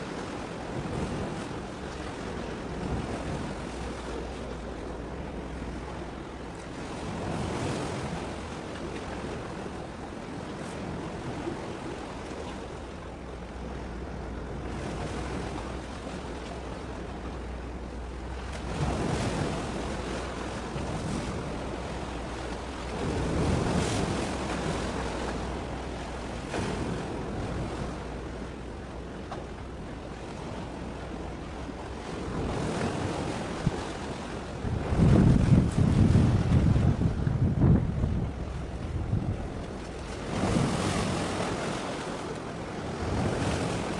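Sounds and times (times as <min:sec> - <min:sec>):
low steady rumble: 0:00.0 - 0:43.9
sea waves washing: 0:00.0 - 0:43.9
wind on microphone: 0:00.0 - 0:43.9.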